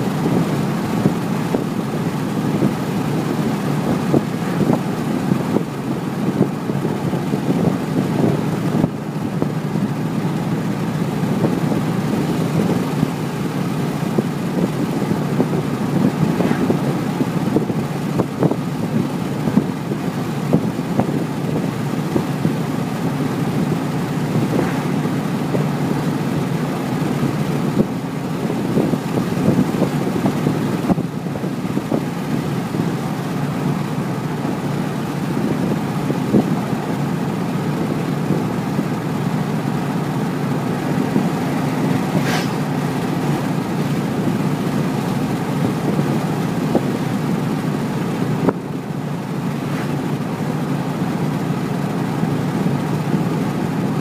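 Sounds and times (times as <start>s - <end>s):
car exhaust drone in cabin: 0.0s - 54.0s.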